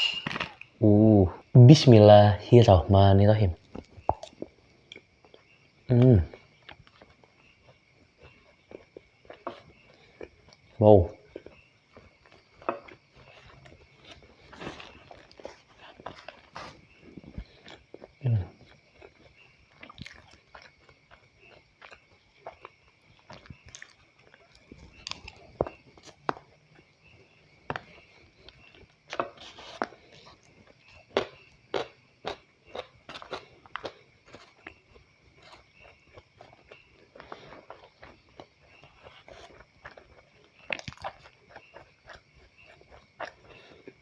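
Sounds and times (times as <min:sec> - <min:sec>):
crunchy bites and chewing: 0:00.0 - 0:01.8, 0:03.5 - 0:44.0.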